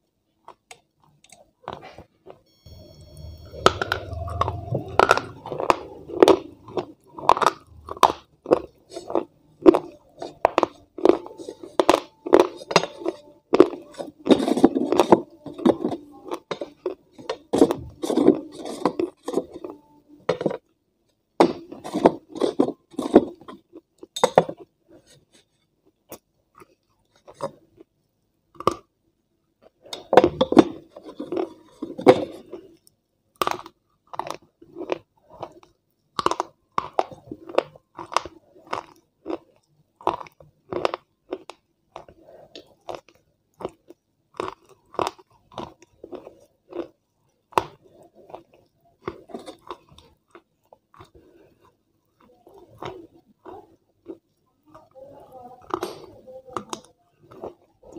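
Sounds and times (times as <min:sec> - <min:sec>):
chewing and crunching food: 0:00.4 - 0:57.9.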